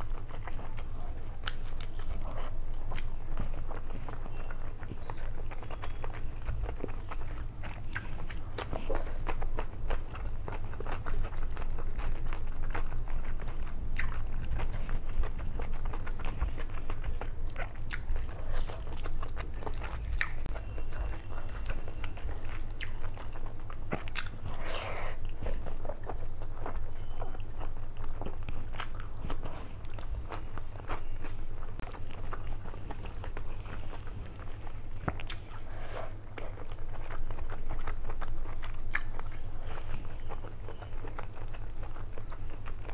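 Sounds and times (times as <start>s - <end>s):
steady low hum: 0.0s - 42.9s
wet chewing and mouth smacks: 0.0s - 42.9s.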